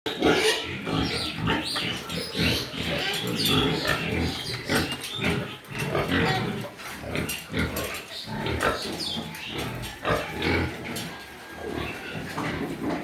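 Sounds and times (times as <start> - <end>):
pigs grunting and squealing: 0.1 - 13.0.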